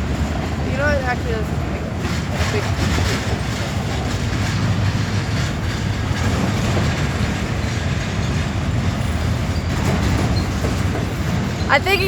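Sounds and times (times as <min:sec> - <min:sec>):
freight train rumbling past: 0:00.0 - 0:12.0
wheels clacking over rail joints: 0:00.0 - 0:12.0.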